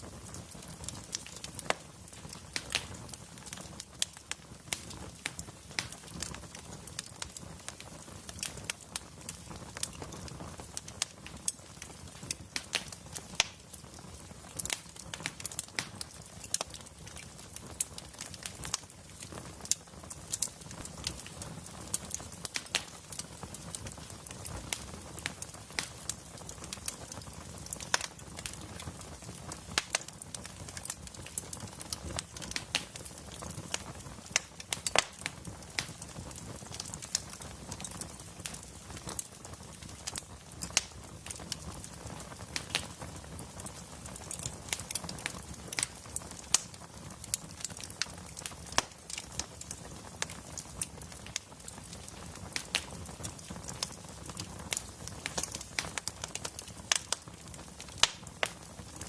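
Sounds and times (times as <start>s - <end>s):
fire pops and snaps: 0.0s - 59.0s
wood fire crackling: 0.0s - 59.0s.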